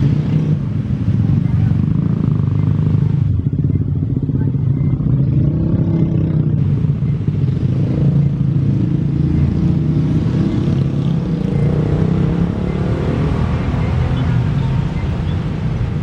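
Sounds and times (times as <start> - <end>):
engines humming: 0.0 - 16.0.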